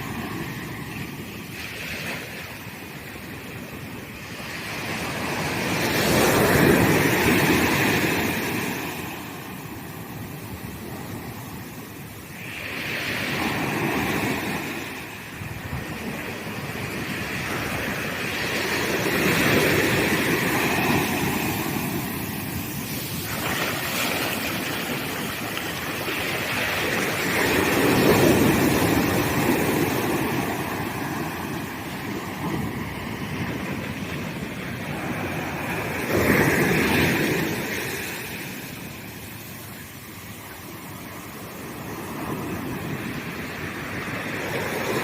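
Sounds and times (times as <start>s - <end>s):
ocean surf breaking on sand: 0.0s - 45.0s.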